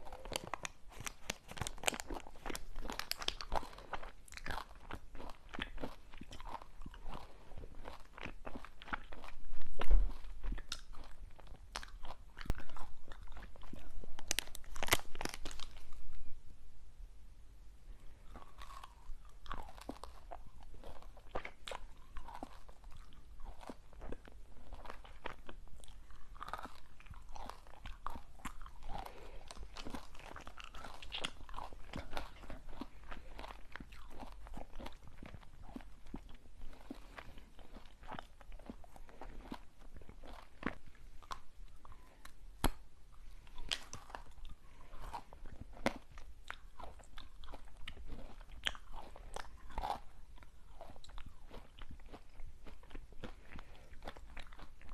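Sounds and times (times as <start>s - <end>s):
crunchy snack chewing: 0.0s - 16.2s, 18.2s - 54.9s.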